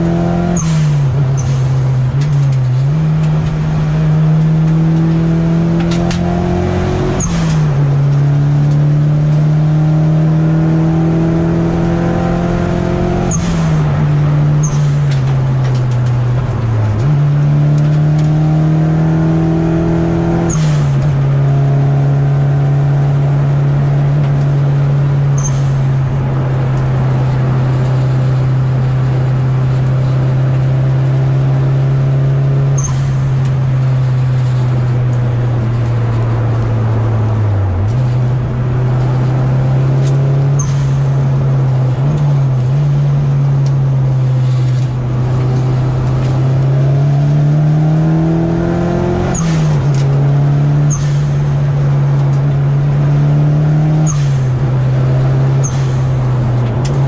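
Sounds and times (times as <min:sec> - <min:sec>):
car engine revving while driving: 0:00.0 - 0:57.0.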